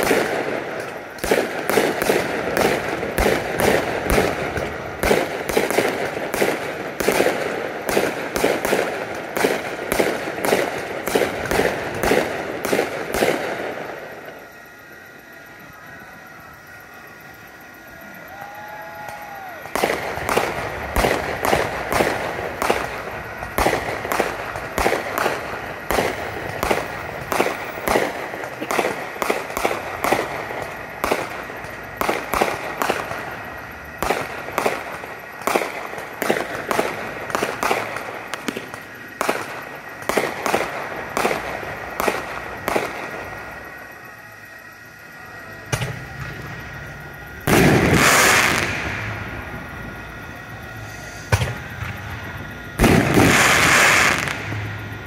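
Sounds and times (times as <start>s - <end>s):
fireworks banging: 0.0s - 55.0s.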